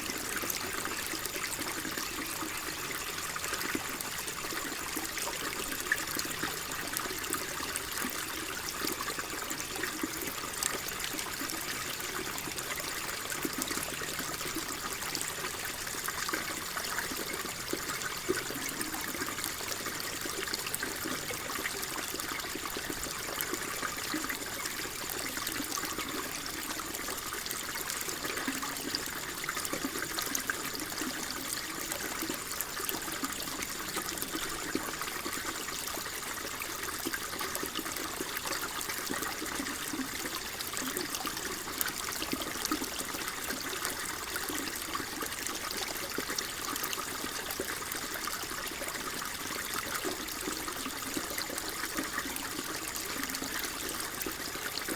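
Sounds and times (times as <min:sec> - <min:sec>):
water trickling and splashing: 0:00.0 - 0:54.9.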